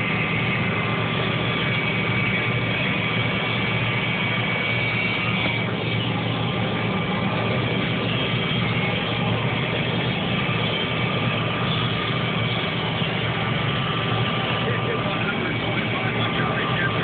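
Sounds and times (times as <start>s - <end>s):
combine harvester engine drone: 0.0s - 17.0s
high whine: 0.0s - 17.0s.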